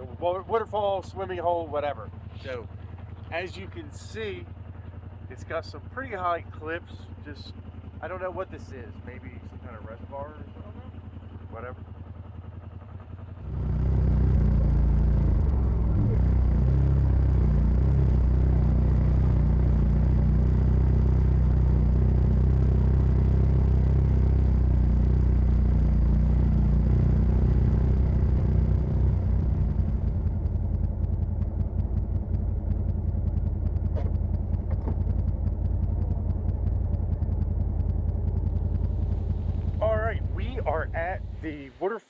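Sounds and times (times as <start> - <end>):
utility vehicle engine rumble: 0.0 - 41.8.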